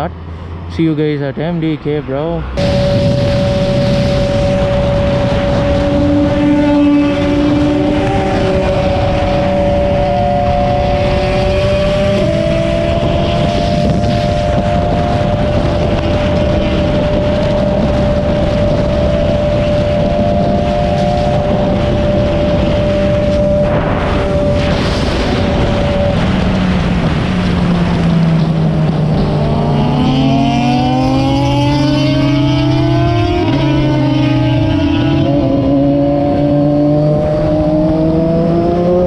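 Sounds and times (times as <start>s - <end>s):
motorcycle engine cruising: 0.0s - 39.0s
wind rush on microphone: 2.4s - 39.0s.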